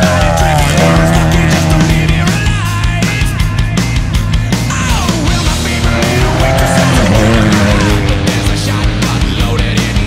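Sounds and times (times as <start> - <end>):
loud rock music: 0.0 - 10.0.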